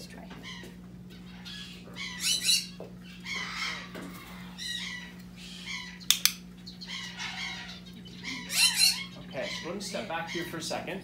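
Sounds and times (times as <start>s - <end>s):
parrot squawking: 0.4s - 10.7s.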